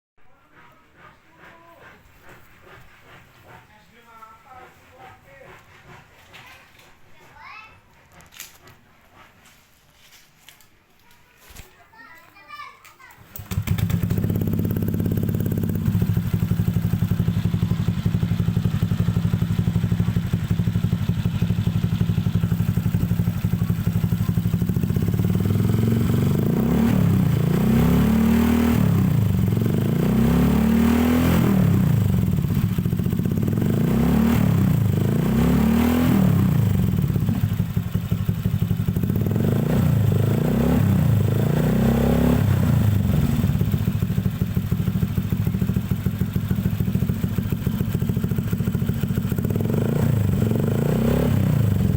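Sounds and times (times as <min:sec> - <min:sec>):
scooter engine idling and revving: 0:01.0 - 0:05.6, 0:13.2 - 0:51.9.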